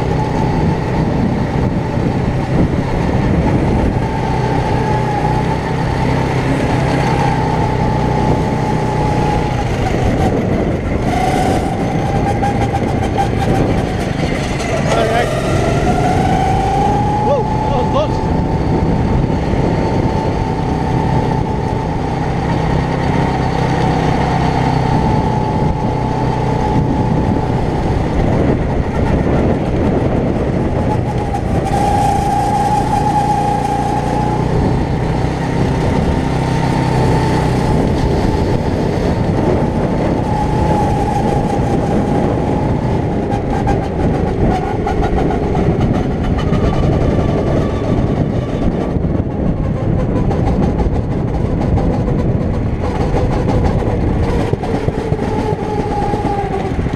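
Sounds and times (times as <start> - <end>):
go-kart engine running: 0.0 - 56.9
wind and road noise: 0.0 - 56.9.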